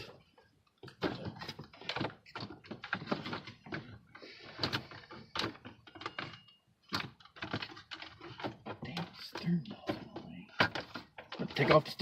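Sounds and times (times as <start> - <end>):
knocks clicks and scrapes of parts: 0.0 - 12.0.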